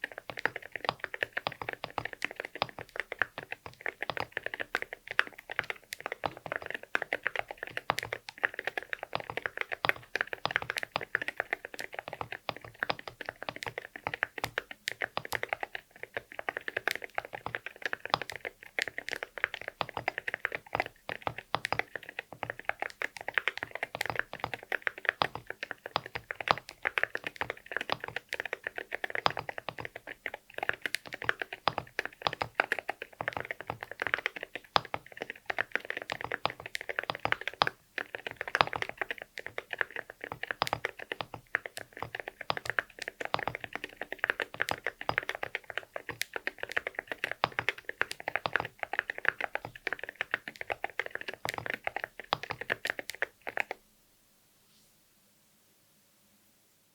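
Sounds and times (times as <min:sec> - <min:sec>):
mechanical keyboard typing: 0:00.0 - 0:53.8.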